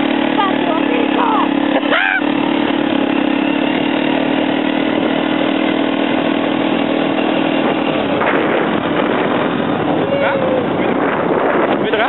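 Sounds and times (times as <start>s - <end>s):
quad bike engine droning: 0.0s - 12.0s.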